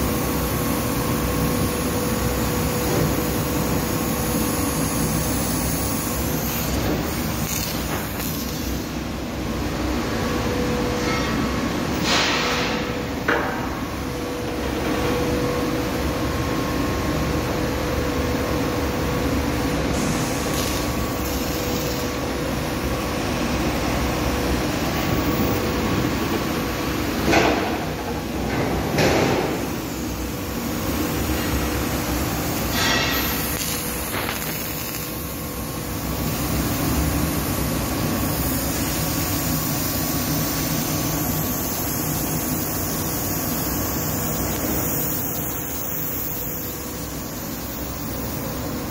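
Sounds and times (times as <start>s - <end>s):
steady hum: 0.0s - 48.9s
workshop machinery noise: 0.0s - 48.9s.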